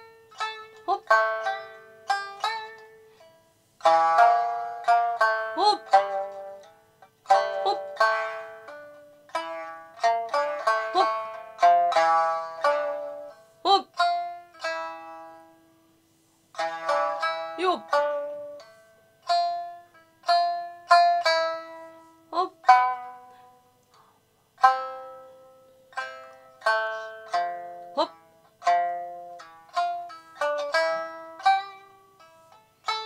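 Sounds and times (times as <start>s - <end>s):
plucked shamisen notes: 0.0s - 33.0s.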